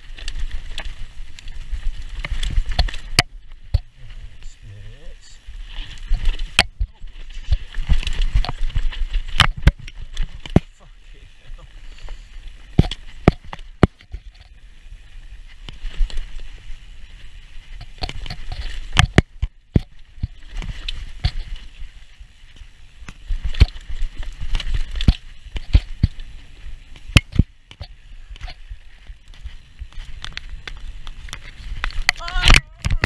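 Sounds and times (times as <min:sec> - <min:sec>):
bike knocking and rattling: 0:00.0 - 0:04.2, 0:05.5 - 0:33.0
bike tyres rolling over dirt: 0:00.0 - 0:33.0.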